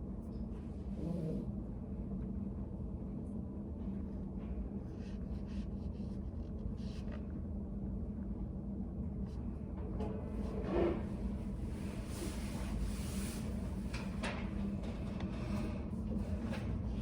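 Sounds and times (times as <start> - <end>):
cafe room hum: 0.0 - 17.0.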